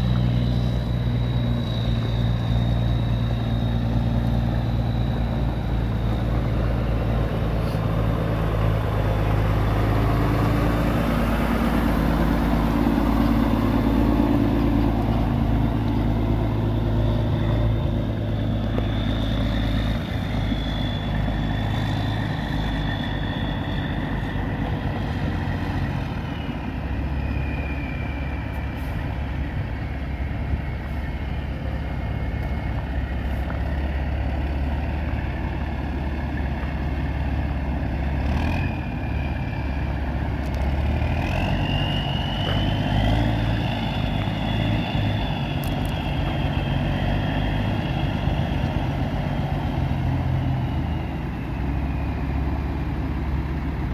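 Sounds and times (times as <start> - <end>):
diesel truck engine running: 0.0 - 53.9
faint high whine: 0.0 - 53.9.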